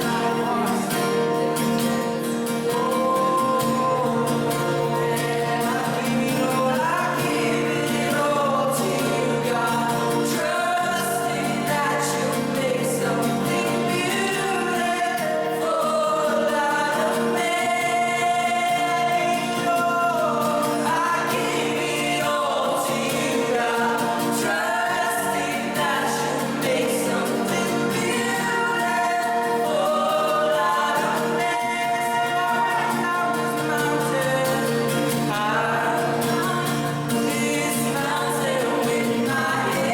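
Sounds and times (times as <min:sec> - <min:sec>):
group singing a hymn: 0:00.0 - 0:39.9
held accompanying chords: 0:00.0 - 0:39.9.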